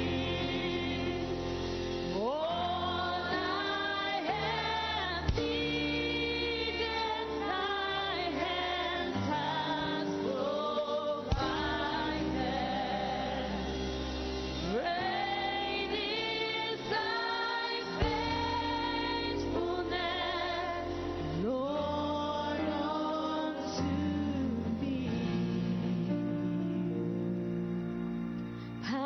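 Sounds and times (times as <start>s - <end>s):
gospel choir singing: 0.0s - 28.2s.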